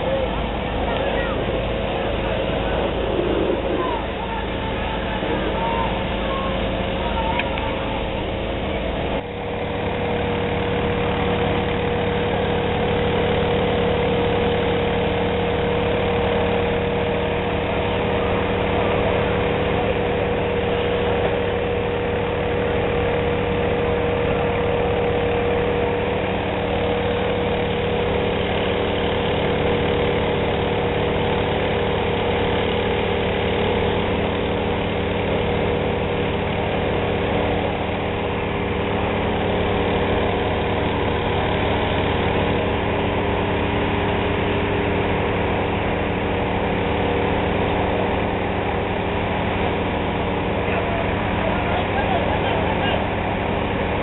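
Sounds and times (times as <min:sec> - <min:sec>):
fire engine engine droning: 0:00.0 - 0:54.0.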